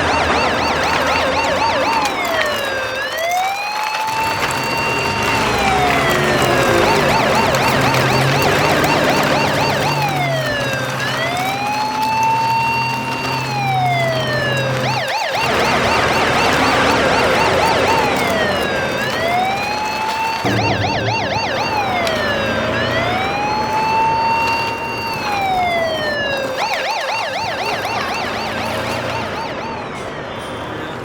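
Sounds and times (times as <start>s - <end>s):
electronic siren wailing and yelping: 0.0s - 30.3s.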